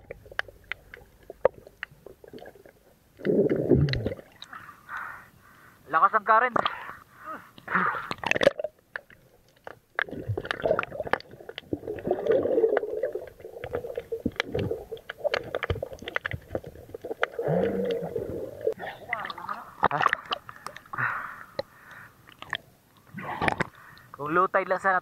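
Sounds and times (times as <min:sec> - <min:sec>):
muffled water gurgling and sloshing: 0:00.0 - 0:05.7, 0:06.6 - 0:23.9.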